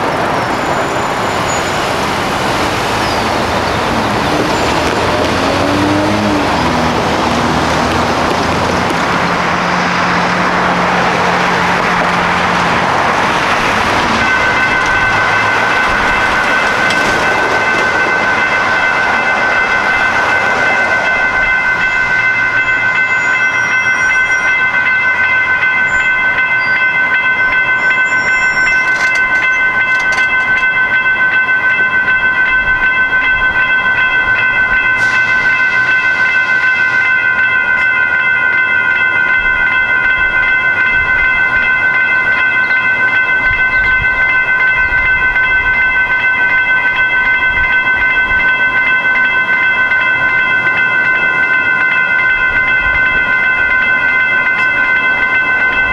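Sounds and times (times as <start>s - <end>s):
railroad crossing bell ringing: 0.0s - 55.9s.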